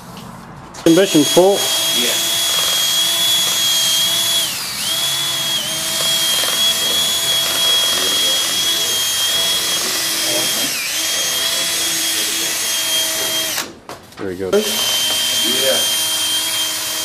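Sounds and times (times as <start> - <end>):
cordless drill motor whining: 0.9 - 13.7, 14.6 - 17.0.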